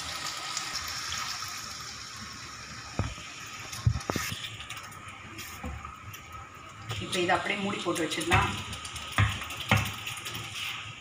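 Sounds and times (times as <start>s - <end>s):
water poured into hot pan: 0.0s - 11.0s.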